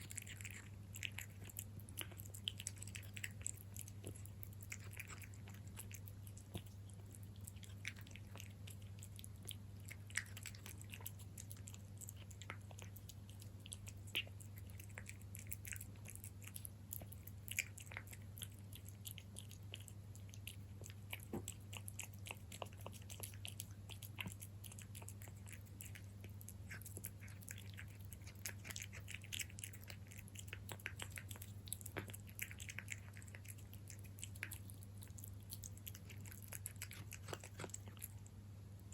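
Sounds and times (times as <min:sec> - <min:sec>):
cat chewing food: 0:00.0 - 0:38.9
steady low hum: 0:00.0 - 0:38.9.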